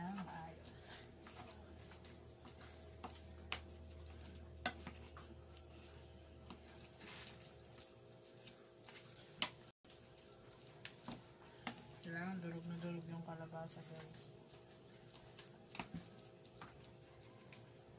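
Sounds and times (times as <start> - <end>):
batter stirred in a bowl: 0.0 - 17.9.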